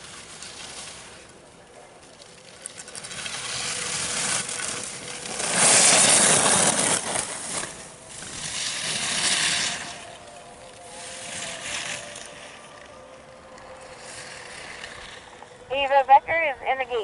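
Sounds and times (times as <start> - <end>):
skis scraping across snow: 0.0 - 1.4, 2.2 - 12.9, 13.6 - 16.0.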